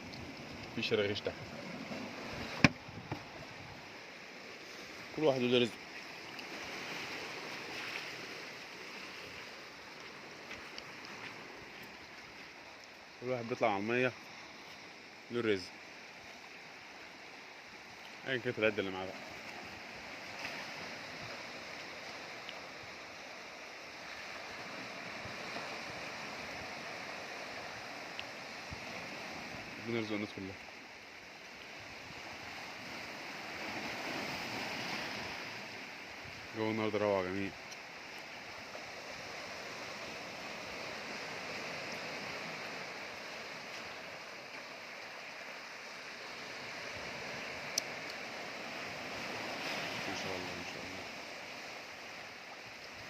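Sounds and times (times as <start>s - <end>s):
sea waves washing: 0.0s - 53.0s.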